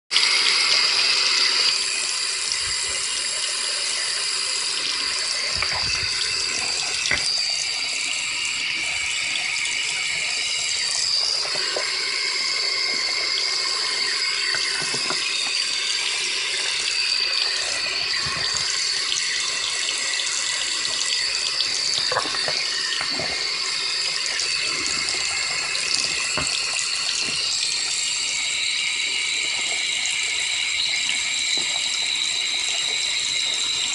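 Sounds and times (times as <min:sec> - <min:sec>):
tap water running into sink: 0:00.1 - 0:33.9.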